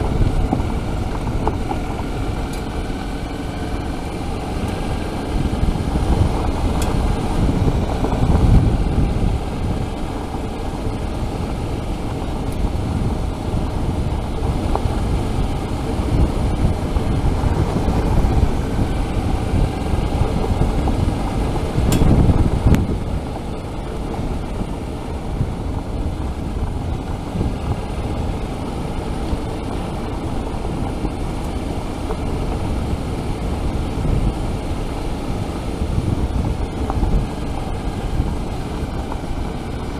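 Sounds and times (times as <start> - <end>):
motorcycle engine running: 0.0 - 39.9
tyre and wind noise: 0.0 - 39.9.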